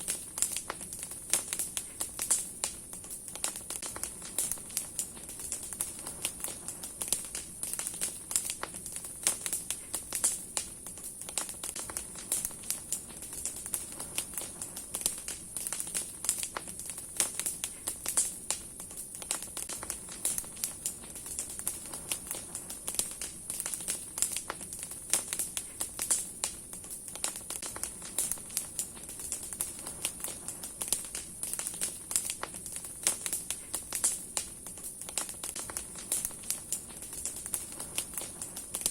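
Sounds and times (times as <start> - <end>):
campfire crackling and popping: 0.0 - 38.9
hiss of flame: 0.0 - 38.9.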